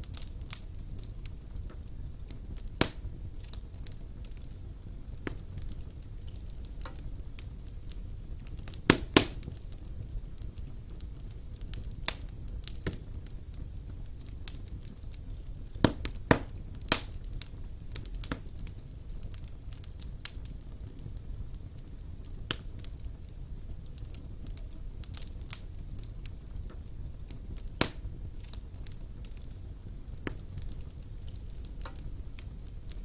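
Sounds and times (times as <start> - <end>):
burning logs crackling and popping: 0.0 - 33.0
low rumble of flames: 0.0 - 33.0.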